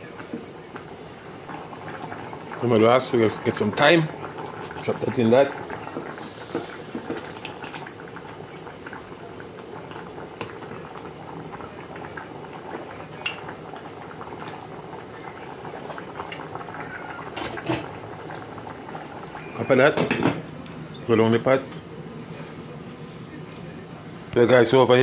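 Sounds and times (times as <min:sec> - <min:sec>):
pot boiling with bubbling pops: 0:00.0 - 0:21.0.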